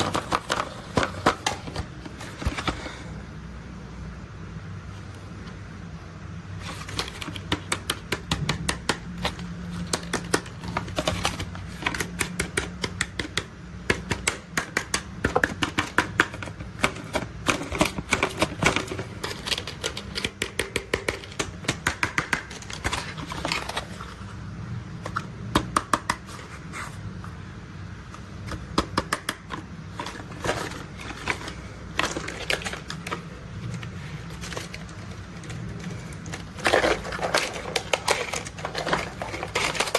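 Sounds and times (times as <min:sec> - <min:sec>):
plastic toys clicking and tapping: 0:00.0 - 0:02.8, 0:06.6 - 0:24.2, 0:25.0 - 0:26.5, 0:28.2 - 0:39.9.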